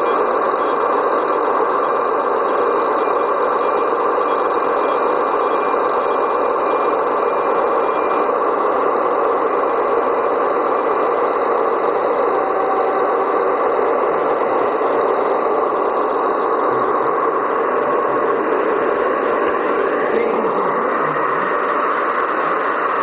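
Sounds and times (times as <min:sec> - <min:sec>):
model trains running on track: 0:00.0 - 0:23.0.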